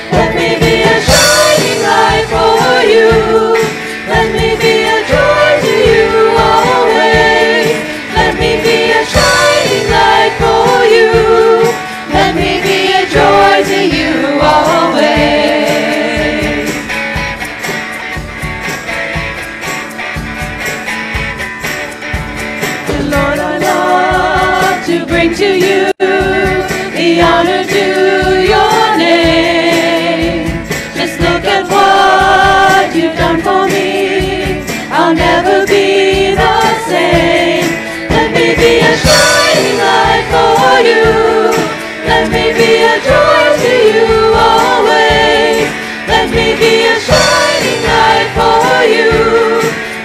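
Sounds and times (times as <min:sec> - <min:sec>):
group singing worship song: 0:00.0 - 0:18.1, 0:22.7 - 0:50.0
drums and guitar: 0:00.0 - 0:50.0.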